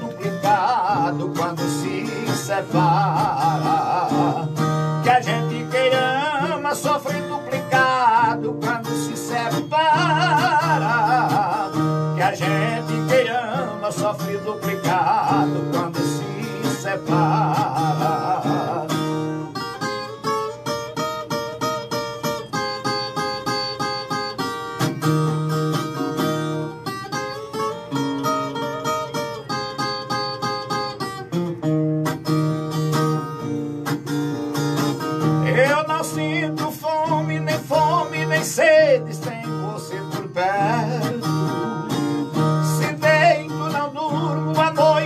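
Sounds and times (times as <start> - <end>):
plucked steel-string melody: 0.0 - 45.0.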